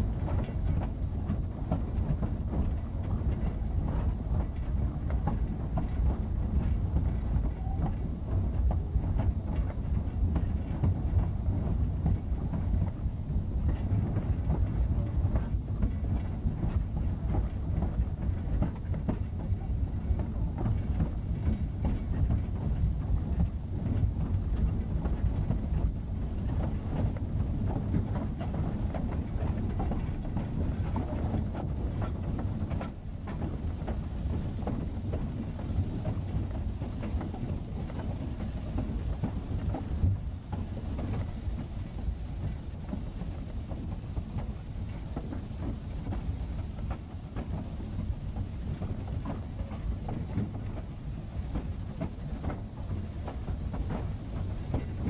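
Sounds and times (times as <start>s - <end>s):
steam train rumble: 0.0s - 55.0s
wheels clattering on rails: 0.0s - 55.0s.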